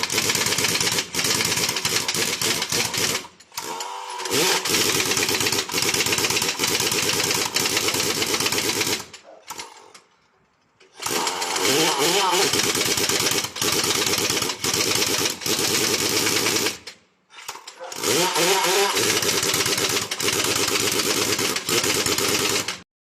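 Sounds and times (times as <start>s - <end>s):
air tool rattling: 0.0s - 10.1s, 10.8s - 22.8s.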